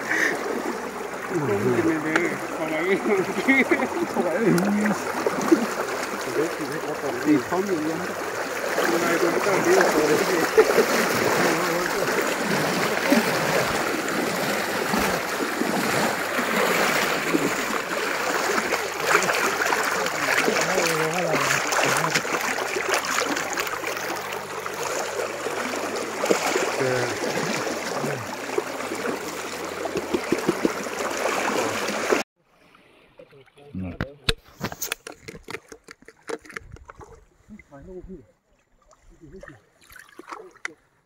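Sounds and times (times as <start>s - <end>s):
sharp water splashes: 0.0s - 32.3s, 38.5s - 40.8s
shallow river water rushing: 0.0s - 33.6s.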